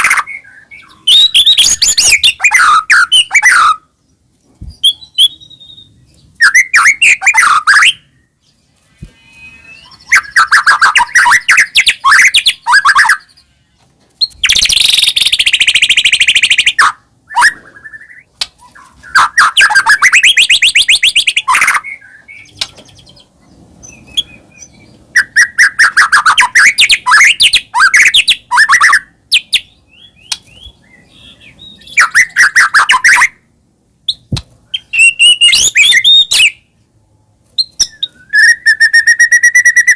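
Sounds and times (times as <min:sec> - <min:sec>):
bird singing varied phrases: 0:00.0 - 0:36.7, 0:37.6 - 0:39.9.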